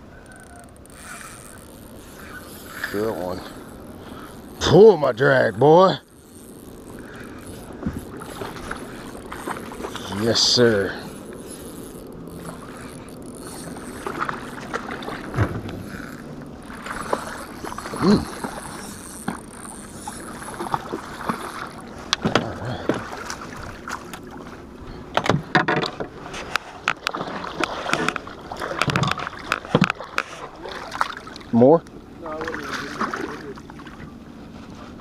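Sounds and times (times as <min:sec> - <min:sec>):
water lapping against boat hull: 0:00.0 - 0:35.0.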